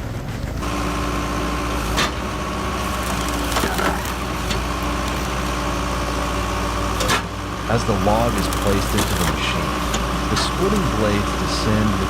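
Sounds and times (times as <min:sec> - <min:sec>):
log splitter humming: 0:00.0 - 0:12.0
wood cracking and splintering: 0:00.0 - 0:12.0.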